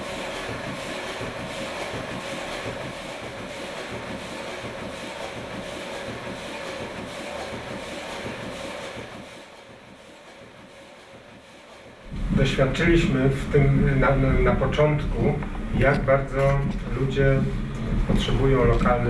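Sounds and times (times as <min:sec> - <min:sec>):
printing press clatter: 0:00.0 - 0:19.0.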